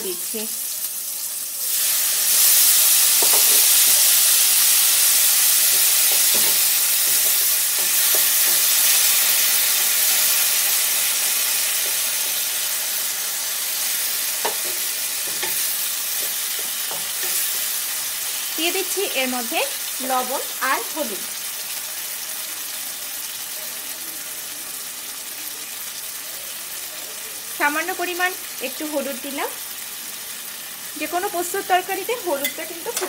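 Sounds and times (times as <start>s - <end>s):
hot oil sizzling in a pan: 0.0s - 33.0s.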